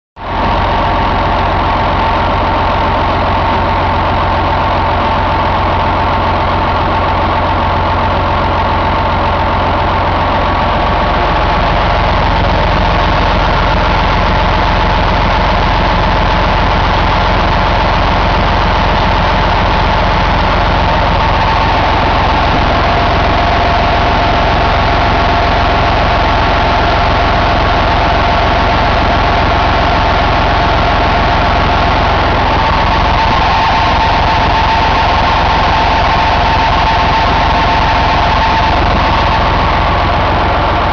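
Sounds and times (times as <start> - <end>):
diesel engine idling: 0.2 - 40.9.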